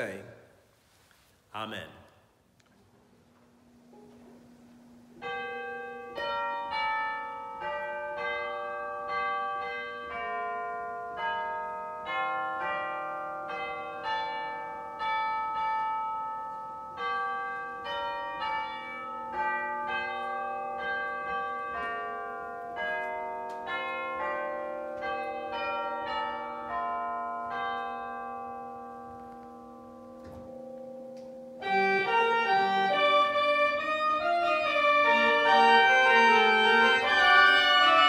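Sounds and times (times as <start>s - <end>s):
bells playing a melody: 4.9s - 38.0s.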